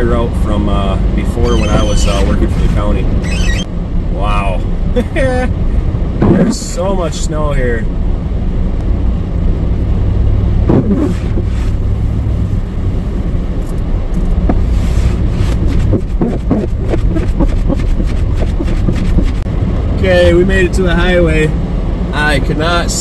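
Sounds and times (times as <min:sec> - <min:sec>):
engine and road drone: 0:00.0 - 0:23.0.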